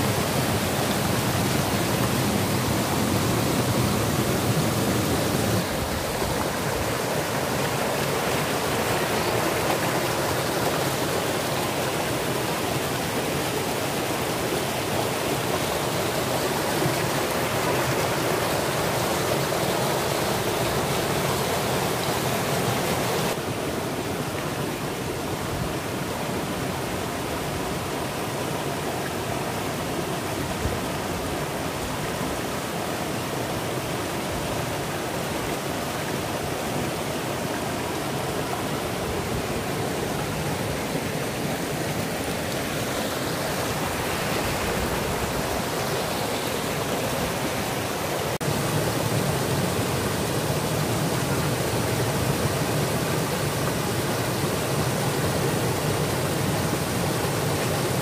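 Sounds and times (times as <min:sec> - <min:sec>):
stream rushing over boulders: 0:00.0 - 0:58.0.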